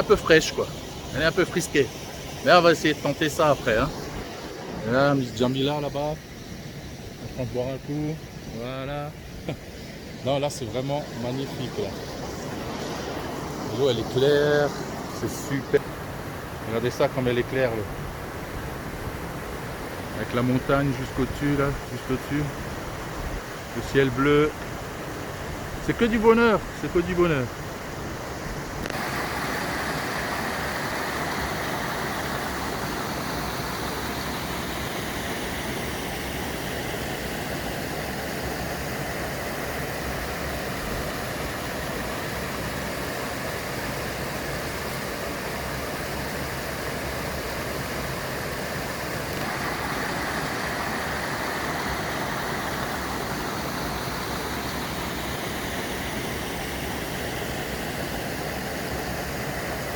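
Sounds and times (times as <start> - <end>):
small waterfall rushing: 0.0 - 59.9.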